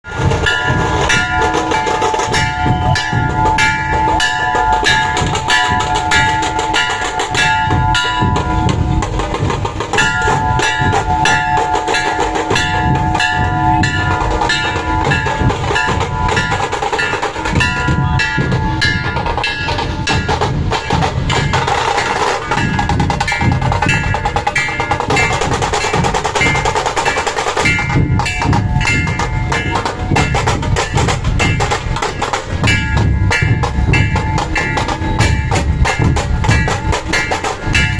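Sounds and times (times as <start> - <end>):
barrel and kettle drums beating: 0.0 - 37.9
steady ringing tones: 0.1 - 37.9.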